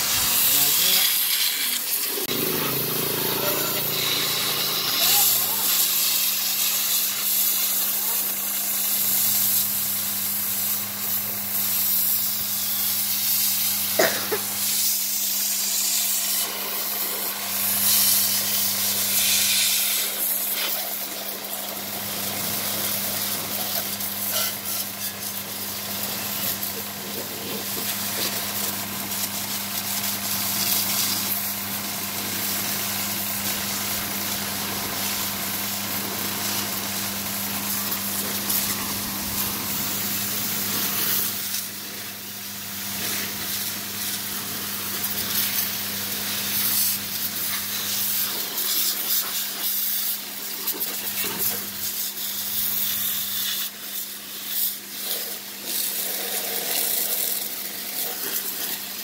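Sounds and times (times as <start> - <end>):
pressure washer spray hissing: 0.0 - 59.0.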